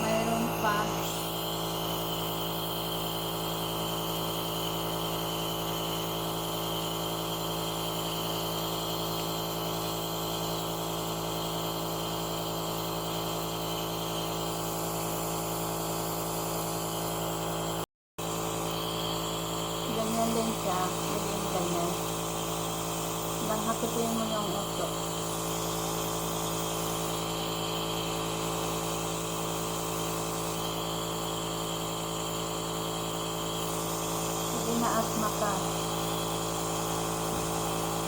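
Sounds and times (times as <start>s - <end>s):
nebulizer compressor humming: 0.0s - 38.0s.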